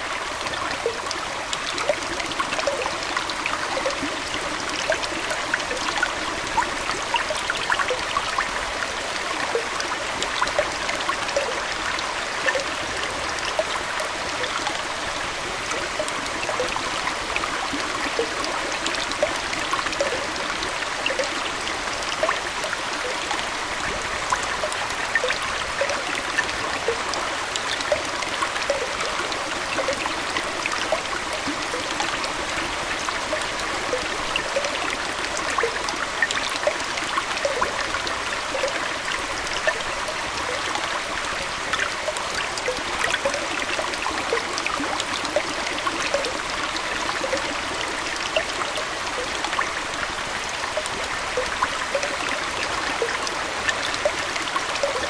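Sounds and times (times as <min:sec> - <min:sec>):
aquarium water trickling: 0:00.0 - 0:55.0
small splashes and bubbling: 0:00.0 - 0:55.0.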